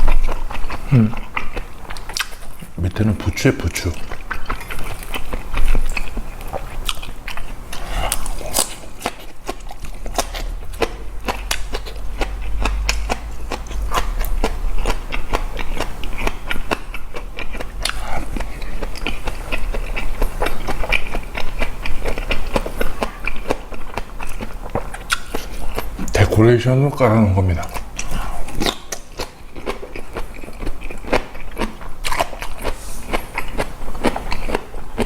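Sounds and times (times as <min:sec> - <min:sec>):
person chewing crunchy food: 0:00.0 - 0:35.0.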